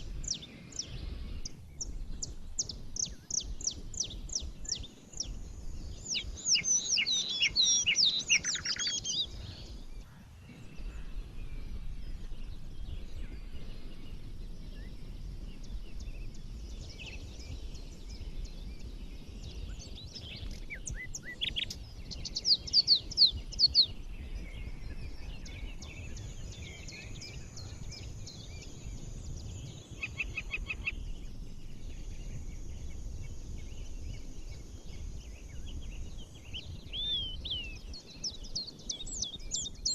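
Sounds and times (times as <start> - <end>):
steady low rumble: 0.0 - 6.5, 9.2 - 39.8
songbirds singing and chirping: 0.0 - 39.9.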